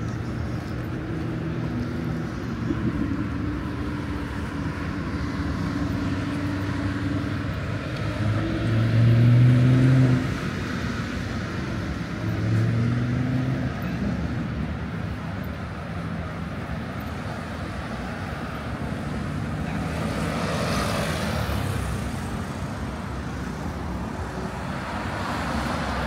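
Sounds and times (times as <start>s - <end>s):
passing traffic engines: 0.0s - 26.0s.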